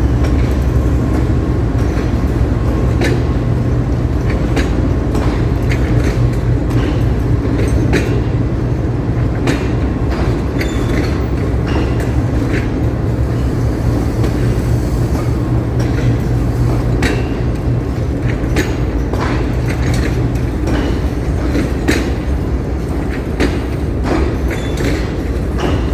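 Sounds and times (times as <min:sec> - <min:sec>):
passenger train rumbling: 0:00.0 - 0:25.9
wheels clacking over rail joints: 0:00.0 - 0:25.9.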